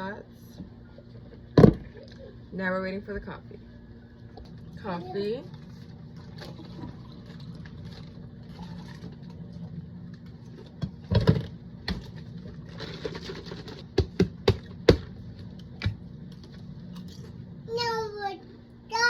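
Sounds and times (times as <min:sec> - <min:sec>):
coffee maker humming: 0:00.0 - 0:19.0.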